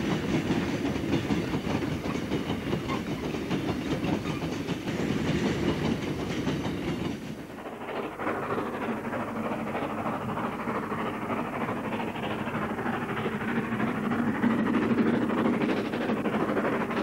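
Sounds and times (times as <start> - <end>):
distant steam locomotives rumbling: 0.0 - 17.0.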